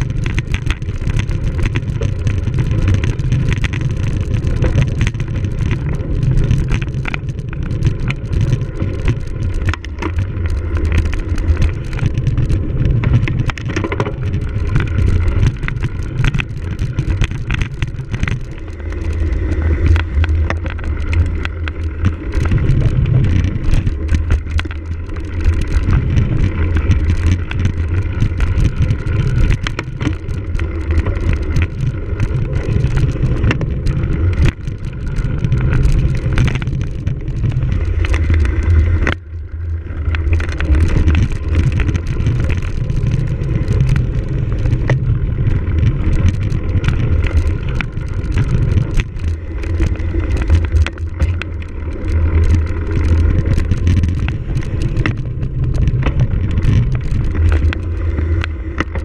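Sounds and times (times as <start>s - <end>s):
bike rattles and clicks: 0.0s - 59.0s
wind rumbling on microphone: 0.0s - 59.0s.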